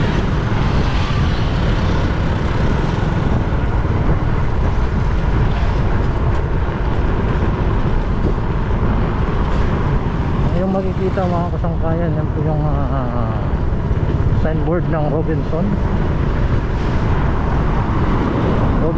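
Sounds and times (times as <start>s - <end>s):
wind and road noise: 0.0s - 18.9s.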